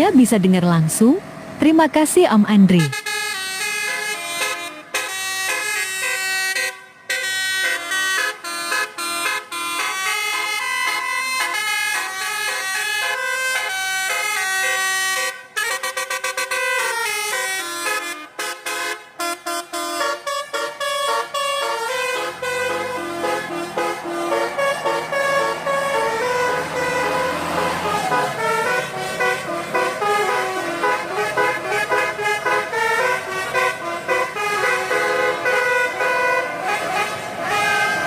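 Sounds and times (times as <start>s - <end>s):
musical bus horn playing a melody: 2.8s - 38.0s.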